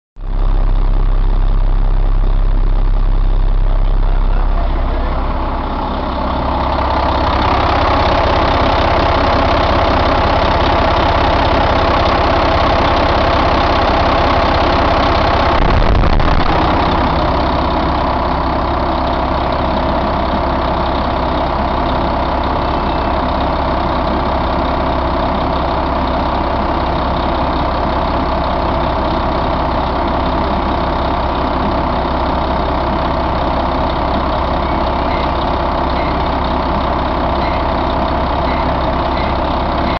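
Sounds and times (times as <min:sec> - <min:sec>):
diesel engine idling: 0:00.2 - 0:39.9.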